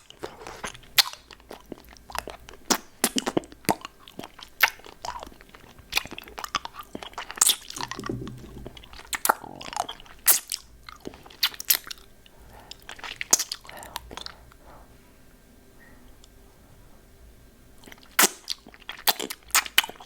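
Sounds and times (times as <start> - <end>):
wet chewing: 0.0 - 14.5, 17.8 - 20.0.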